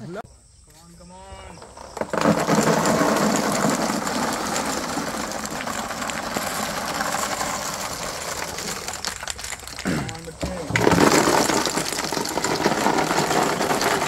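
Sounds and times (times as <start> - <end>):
ping pong balls rattling: 1.6 - 14.0.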